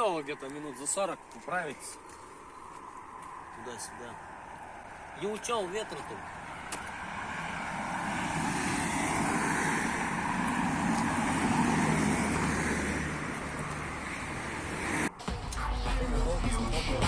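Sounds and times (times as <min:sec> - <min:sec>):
vehicle tyre and engine noise: 0:00.0 - 0:15.2.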